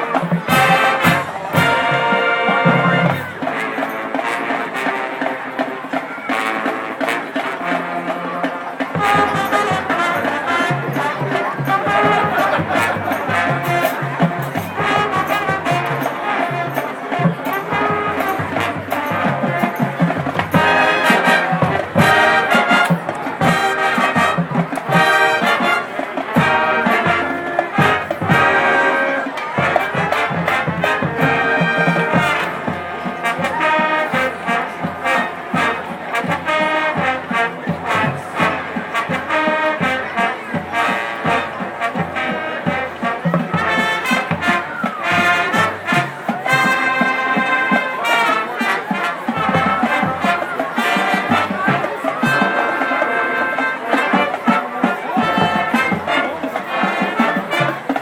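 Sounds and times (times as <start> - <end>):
marching band playing jazz: 0.0 - 58.0
trumpets and trombones: 0.0 - 58.0.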